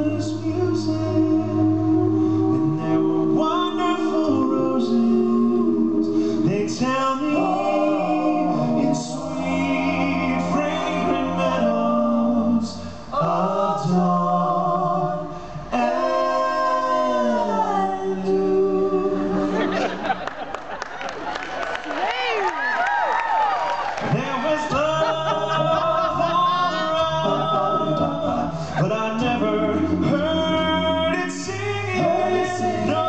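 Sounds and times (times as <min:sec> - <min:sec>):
voices singing in harmony: 0:00.0 - 0:20.2, 0:24.0 - 0:33.0.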